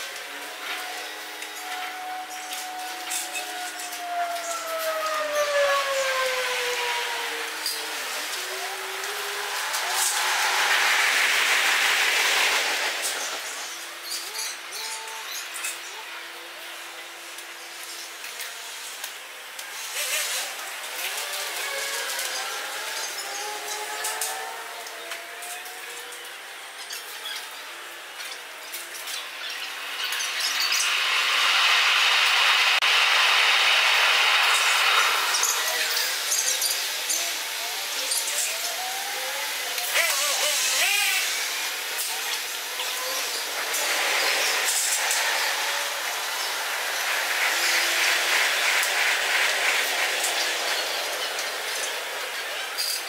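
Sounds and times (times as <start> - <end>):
high-pitched clicks and squeaks: 0.0 - 6.0, 7.4 - 16.0, 17.4 - 31.4, 34.4 - 53.0
loud steady hiss: 6.6 - 53.0.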